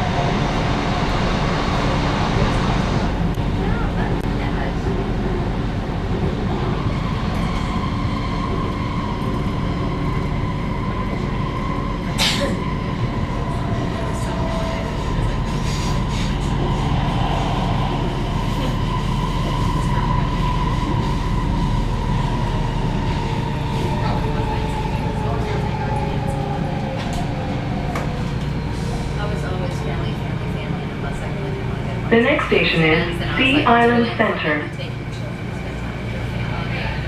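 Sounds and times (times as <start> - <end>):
train car rumble and whine: 0.0 - 37.0.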